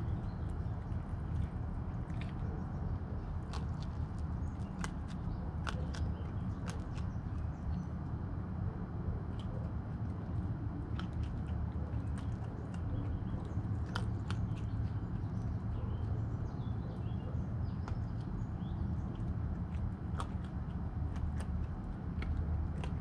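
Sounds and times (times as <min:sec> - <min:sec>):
raccoon crunching kibble: 0:00.0 - 0:23.0
steady low hum: 0:00.0 - 0:23.0.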